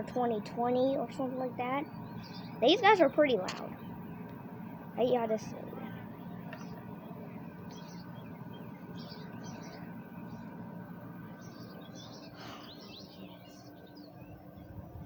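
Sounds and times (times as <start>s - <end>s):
birds chirping: 0.0s - 15.0s
low outdoor hum: 0.0s - 15.0s.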